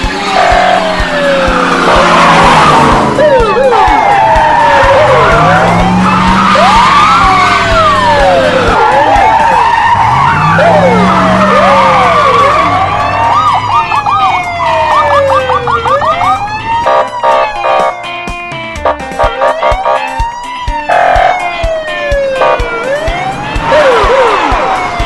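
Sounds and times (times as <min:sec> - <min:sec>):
background music: 0:00.0 - 0:25.0
car engines: 0:00.0 - 0:25.0
emergency sirens wailing: 0:00.0 - 0:25.0.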